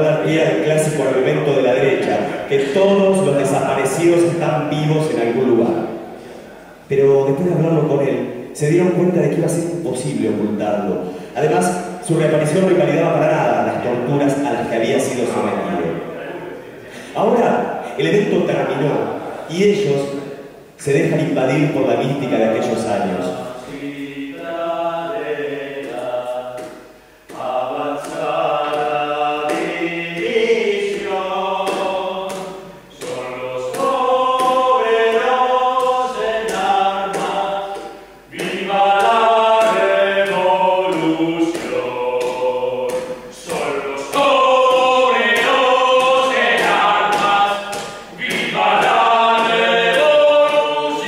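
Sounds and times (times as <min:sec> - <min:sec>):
group singing unaccompanied: 0:00.0 - 0:08.3, 0:11.4 - 0:51.0.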